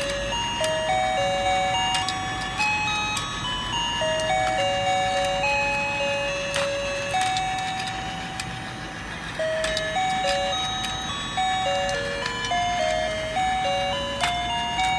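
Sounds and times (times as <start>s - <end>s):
plastic toy clicks: 0.0s - 14.9s.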